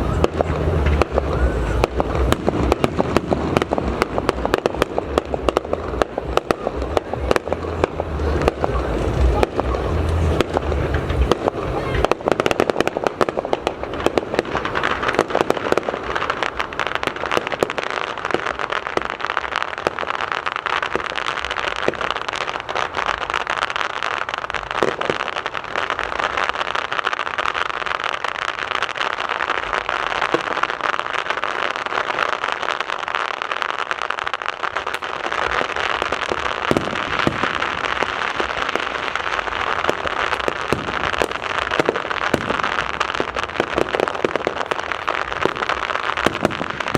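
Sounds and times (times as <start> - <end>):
fireworks crackling: 0.0 - 46.9
loud fireworks bangs: 0.0 - 46.9.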